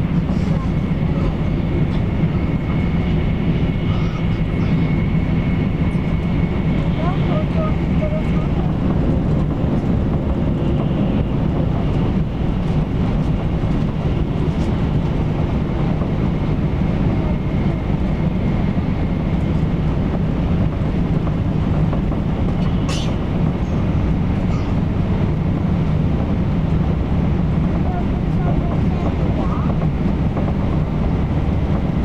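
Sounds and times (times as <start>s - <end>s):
train interior low rumble: 0.0s - 32.0s.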